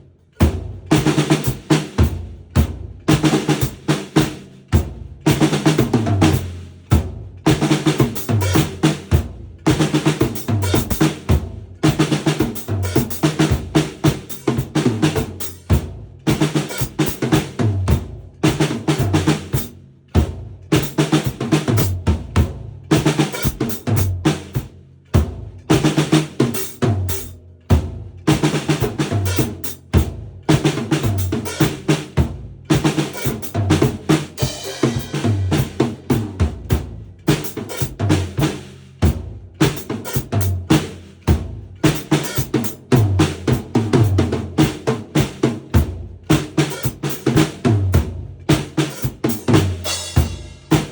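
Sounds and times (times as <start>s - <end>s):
drum kit playing: 0.0s - 50.9s.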